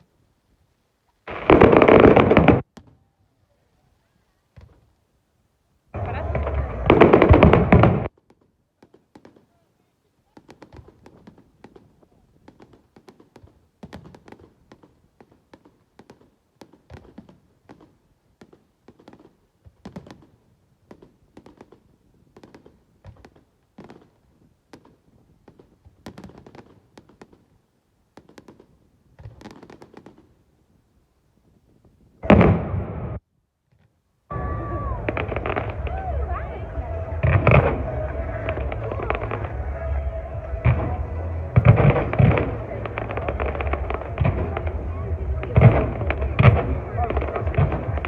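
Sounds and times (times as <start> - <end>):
fireworks popping and crackling: 1.3 - 3.8, 6.0 - 48.0.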